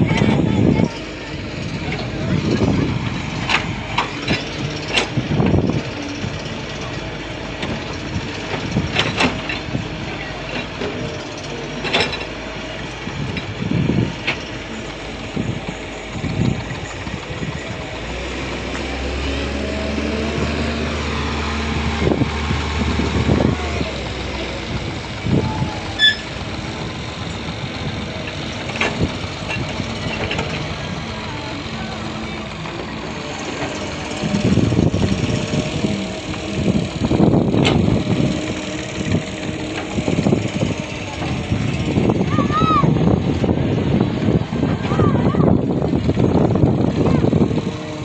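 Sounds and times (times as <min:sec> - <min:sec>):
engine running steadily: 0:00.0 - 0:48.0.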